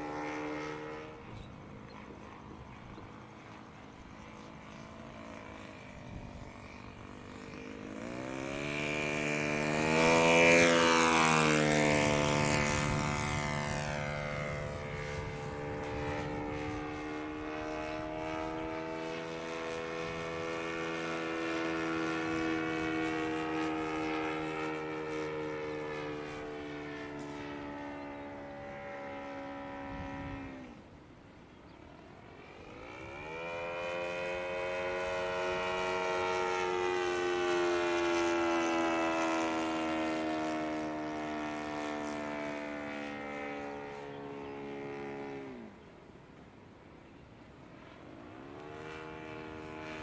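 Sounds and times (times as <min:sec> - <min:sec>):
model plane engine passing: 0:00.0 - 0:50.0.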